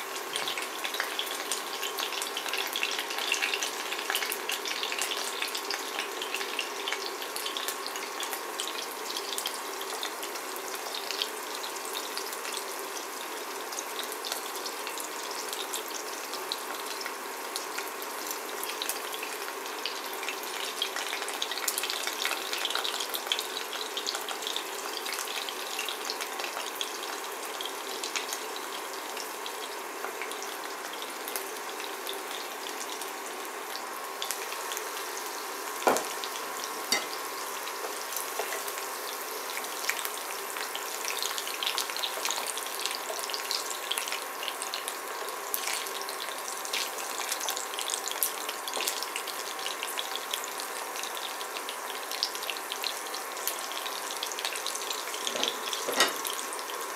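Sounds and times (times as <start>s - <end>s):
food sizzling in oil: 0.0s - 56.9s.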